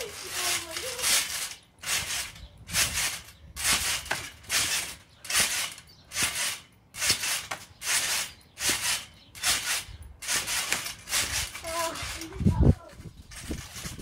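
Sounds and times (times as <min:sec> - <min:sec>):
bouncing on trampoline: 0:00.0 - 0:14.0.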